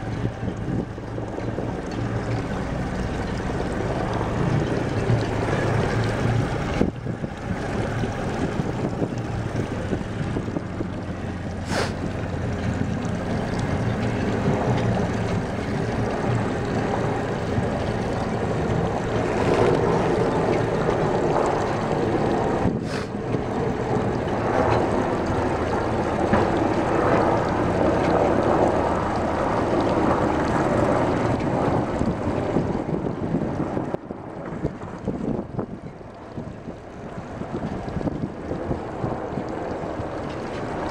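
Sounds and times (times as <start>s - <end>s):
boat diesel engine humming: 0.0s - 40.9s
wind buffeting microphone: 0.0s - 40.9s.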